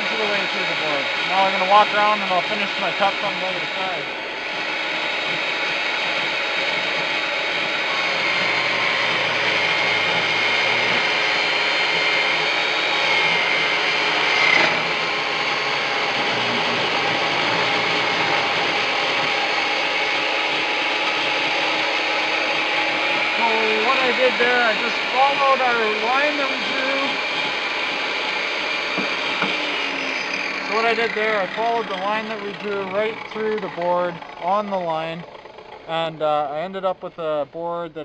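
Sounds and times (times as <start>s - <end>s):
table saw cutting wood: 0.0s - 37.3s.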